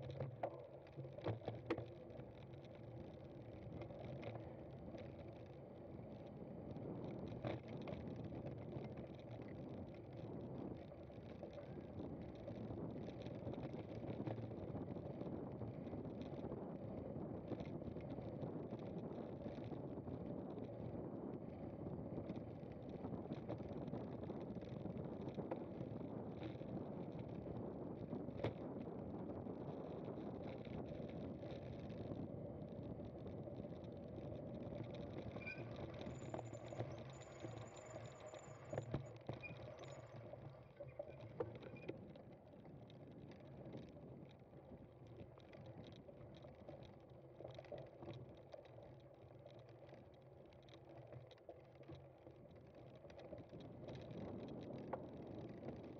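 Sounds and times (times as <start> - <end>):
bike tyres rumbling on rough ground: 0.1 - 55.9.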